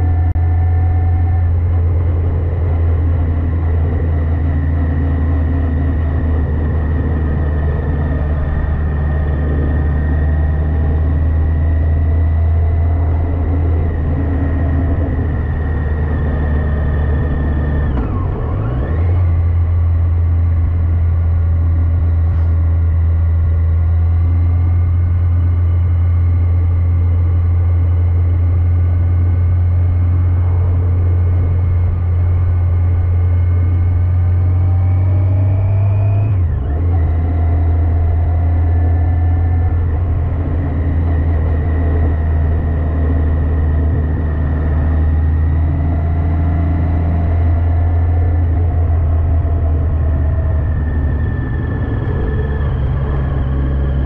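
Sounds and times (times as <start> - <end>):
motorcycle engine at road speed: 0.0 - 54.0.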